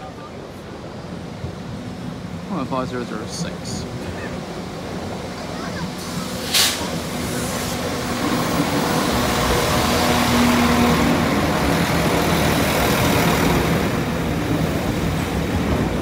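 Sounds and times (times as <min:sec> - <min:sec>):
train wheels rolling on rails: 0:00.4 - 0:16.0.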